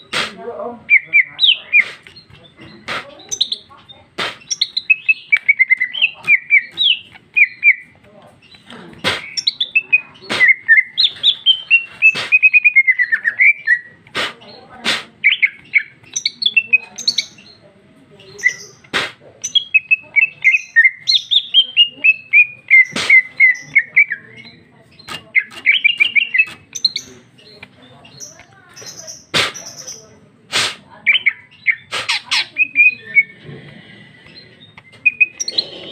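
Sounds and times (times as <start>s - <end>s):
bird singing quick chirps: 0.0s - 17.6s, 18.2s - 33.4s, 34.2s - 35.9s
sharp bird clicks: 0.1s - 17.6s, 18.3s - 35.9s.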